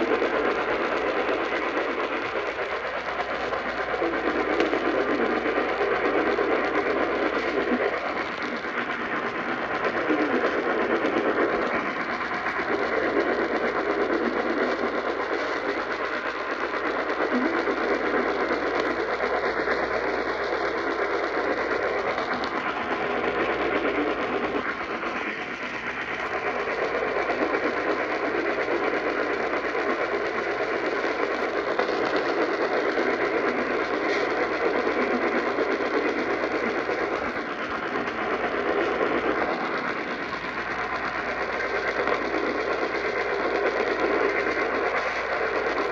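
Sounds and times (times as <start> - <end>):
radio static hiss: 0.0 - 45.9.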